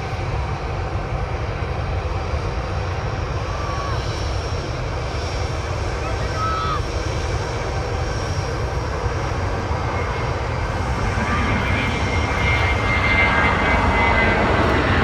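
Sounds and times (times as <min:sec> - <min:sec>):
jet engines rumbling at take-off: 0:00.0 - 0:15.0.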